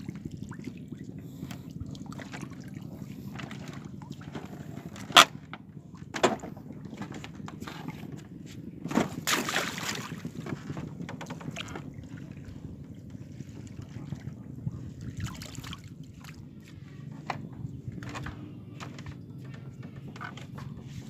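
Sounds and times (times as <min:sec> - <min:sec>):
steady low rumble: 0:00.0 - 0:21.0
water sloshing and splashing: 0:00.0 - 0:21.0.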